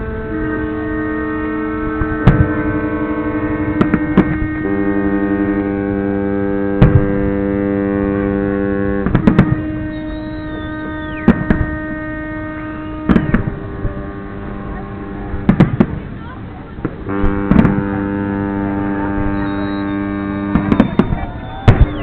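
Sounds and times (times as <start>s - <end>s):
firework whistle: 0.0s - 22.0s
ships' horns sounding: 0.0s - 22.0s
fireworks bangs: 1.8s - 22.0s.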